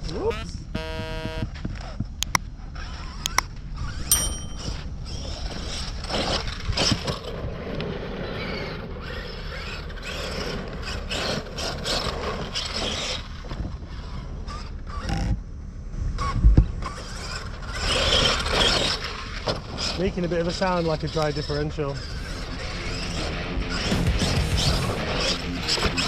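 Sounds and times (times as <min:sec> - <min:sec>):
rc truck motor grinding: 0:01.0 - 0:04.0, 0:05.1 - 0:15.4, 0:16.2 - 0:26.0.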